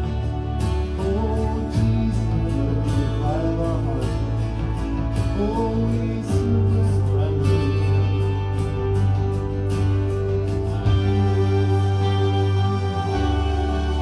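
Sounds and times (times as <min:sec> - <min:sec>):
worship band playing slow song: 0:00.0 - 0:14.0.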